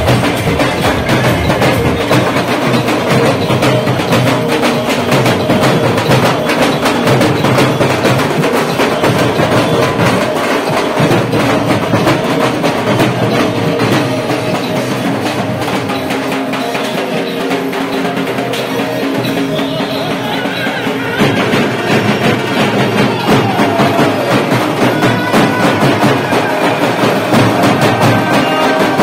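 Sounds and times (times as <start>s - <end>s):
procession drums playing fast rhythm: 0.0s - 29.0s.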